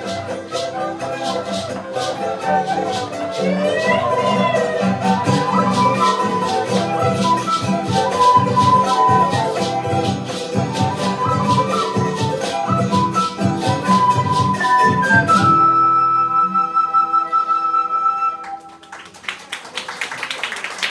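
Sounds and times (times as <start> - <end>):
charango strummed fast: 0.0 - 17.1
quick melody notes: 0.0 - 18.8.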